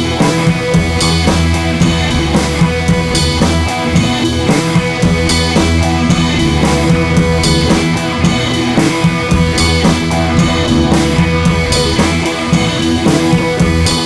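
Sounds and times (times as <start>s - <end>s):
drum kit beat: 0.0s - 14.0s
rock music with electric guitar: 0.0s - 14.0s.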